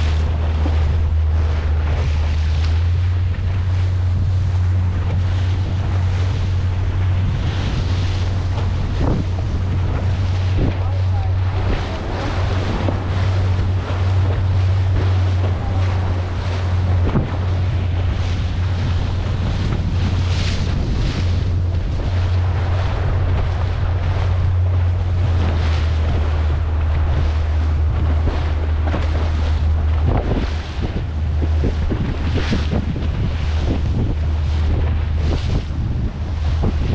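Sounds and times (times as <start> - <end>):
boat engine drone: 0.0 - 36.9
water washing against hull: 0.0 - 36.9
wind buffeting microphone: 0.0 - 36.9.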